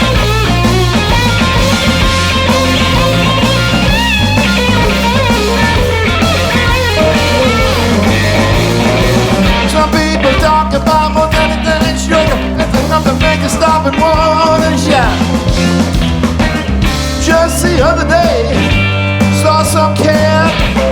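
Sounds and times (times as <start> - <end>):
bass guitar: 0.0 - 20.9
drums: 0.0 - 20.9
electric guitar lead: 0.0 - 20.9.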